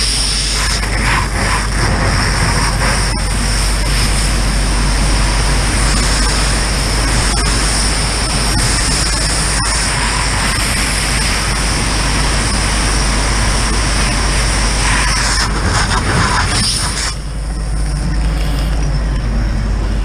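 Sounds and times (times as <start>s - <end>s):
hose nozzle water rushing: 0.0s - 18.8s.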